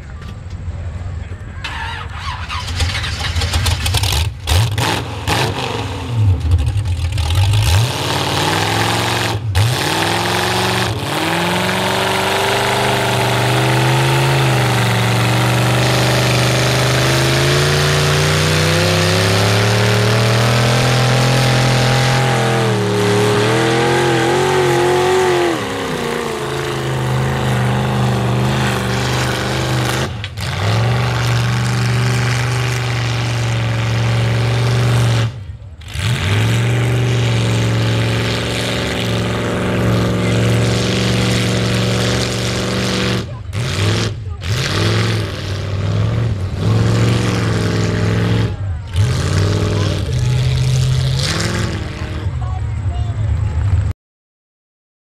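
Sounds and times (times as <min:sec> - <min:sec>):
truck engine revving hard: 0:01.8 - 0:53.9.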